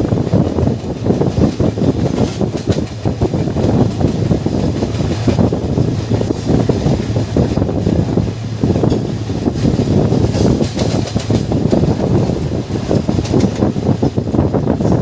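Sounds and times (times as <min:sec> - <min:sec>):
train rumbling: 0:00.0 - 0:15.0
wheels rattling on rails: 0:00.0 - 0:15.0.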